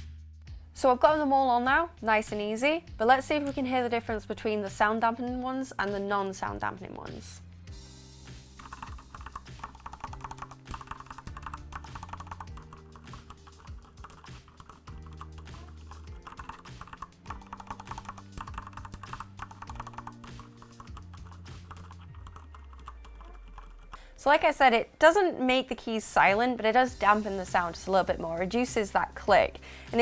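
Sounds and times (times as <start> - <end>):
background music: 0.0 - 30.0.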